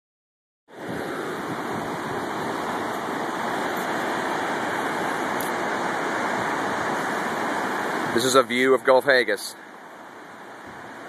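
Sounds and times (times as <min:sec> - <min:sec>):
whitewater rapids rushing: 0:00.7 - 0:11.0.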